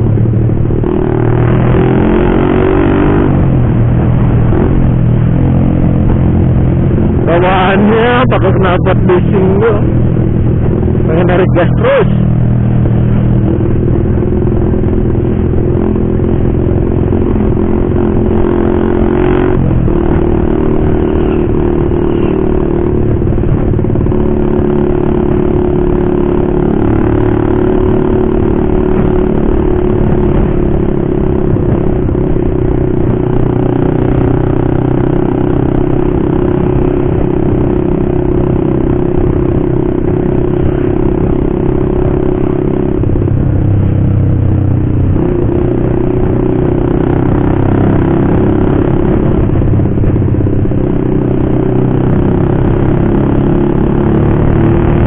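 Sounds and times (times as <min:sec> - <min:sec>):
motorcycle engine with loud exhaust: 0:00.0 - 0:55.0.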